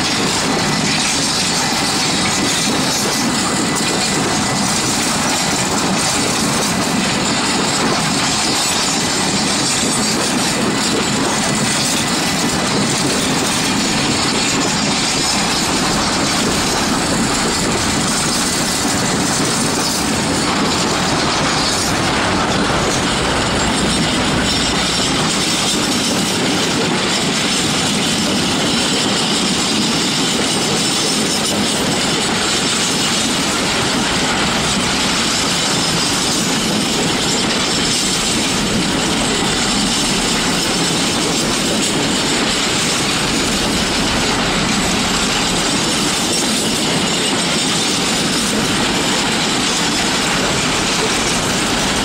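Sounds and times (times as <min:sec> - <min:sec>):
freight train wheels clattering: 0:00.0 - 0:52.0.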